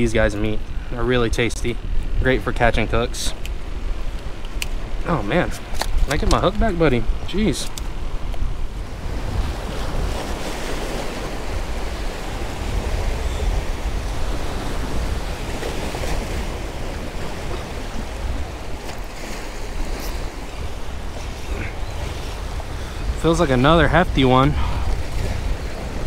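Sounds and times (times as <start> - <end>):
wind buffeting microphone: 0.0 - 26.0
waves splashing against rocks: 3.3 - 26.0.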